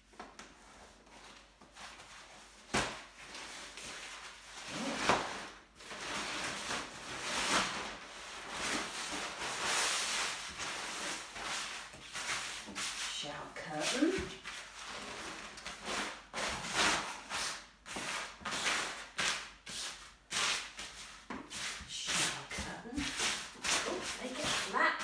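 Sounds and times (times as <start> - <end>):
plastic shower curtain rustling: 0.0 - 25.0.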